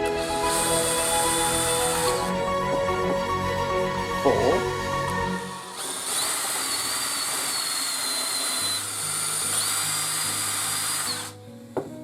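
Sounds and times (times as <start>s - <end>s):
power drill whining: 0.0s - 11.4s.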